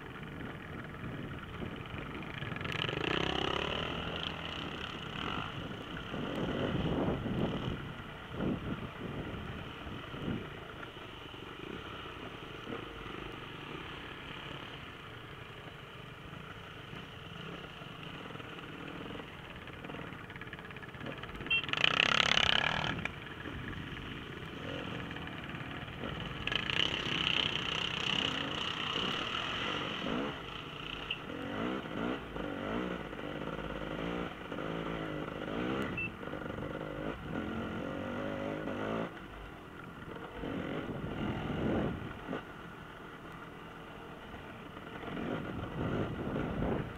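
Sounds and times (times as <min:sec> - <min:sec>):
dirt bike engines revving: 0:00.1 - 0:46.9.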